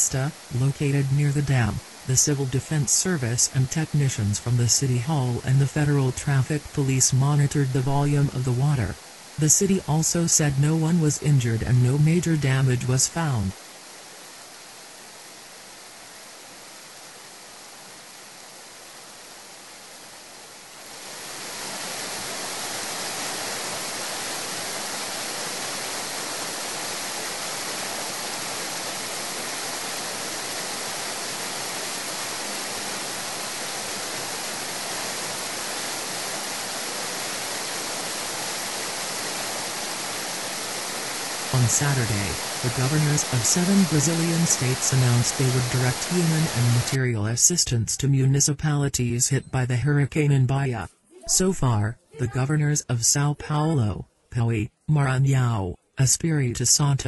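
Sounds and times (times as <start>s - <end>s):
heavy rain and floodwater rushing: 0.0s - 47.6s.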